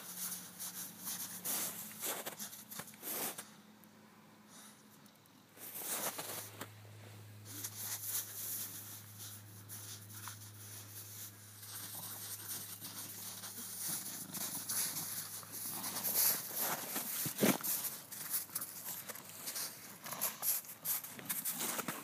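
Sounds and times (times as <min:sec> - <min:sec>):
paws crunching through snow: 0:00.0 - 0:03.4, 0:05.6 - 0:06.7, 0:07.5 - 0:22.0
low steady hum: 0:00.0 - 0:22.0.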